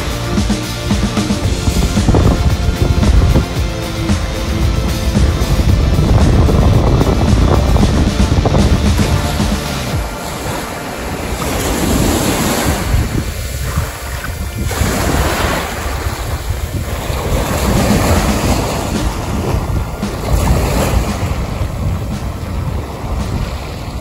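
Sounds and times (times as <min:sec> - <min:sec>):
waves washing up a beach: 0:00.0 - 0:24.0
wind buffeting microphone: 0:01.3 - 0:24.0.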